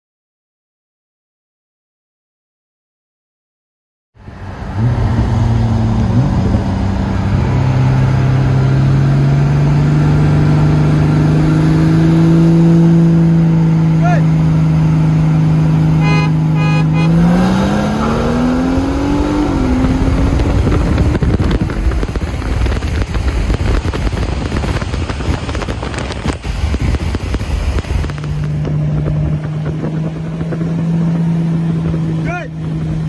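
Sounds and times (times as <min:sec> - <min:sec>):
car engine under full throttle: 0:04.2 - 0:33.0
wind and road roar: 0:04.2 - 0:33.0.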